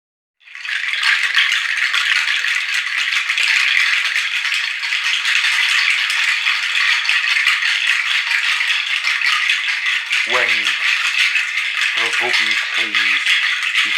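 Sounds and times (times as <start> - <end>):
percussion rattle shaken: 0.4 - 13.9.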